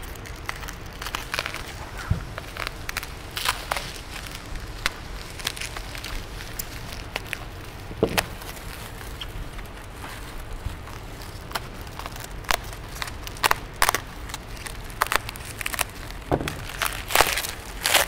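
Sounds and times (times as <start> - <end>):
bubble wrap crinkling and snapping: 0.0 - 18.0.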